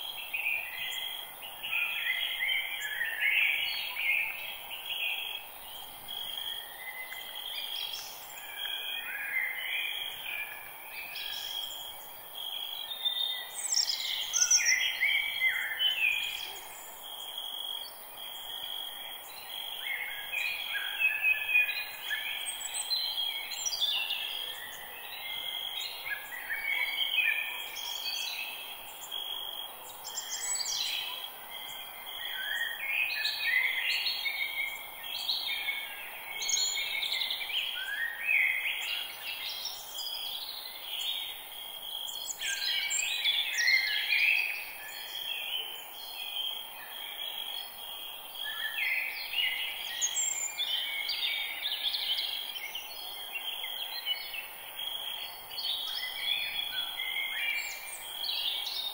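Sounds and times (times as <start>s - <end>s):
birds singing: 0.0s - 41.4s, 42.0s - 58.9s
faint background hiss: 0.0s - 58.9s.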